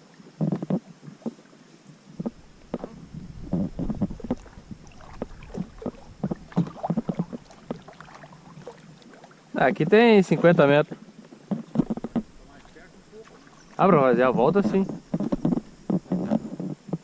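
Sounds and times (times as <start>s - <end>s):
paddle splashing in water: 2.2s - 17.0s.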